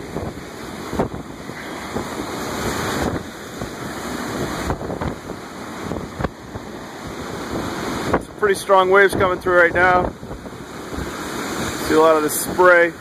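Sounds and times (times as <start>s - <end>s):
wind noise on microphone: 0.0s - 12.8s
waves crashing on rocks: 0.0s - 13.0s.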